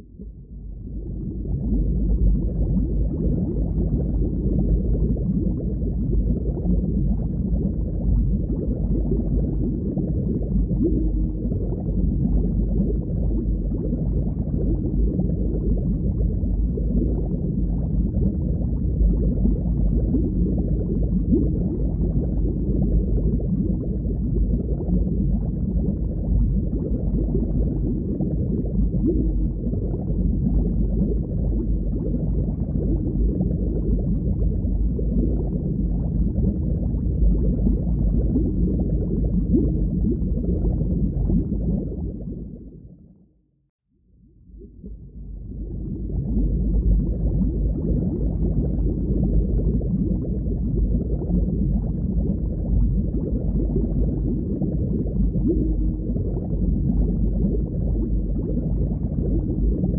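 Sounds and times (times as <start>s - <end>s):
muffled underwater water noise: 0.0s - 43.4s, 44.0s - 59.9s.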